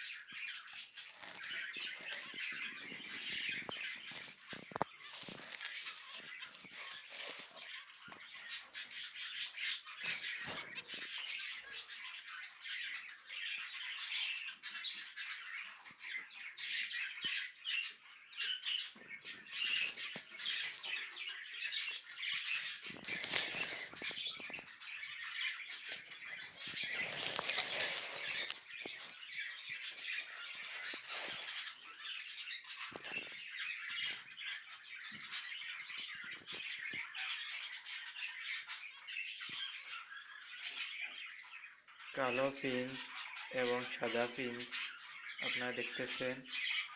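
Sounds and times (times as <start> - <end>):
finches chirping: 0.0 - 46.9.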